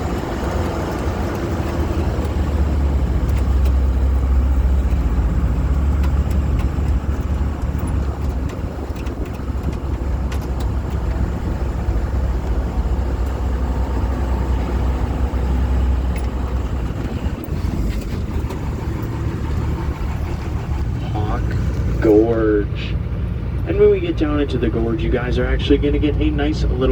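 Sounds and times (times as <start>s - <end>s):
boat engine rumbling: 0.0s - 26.9s.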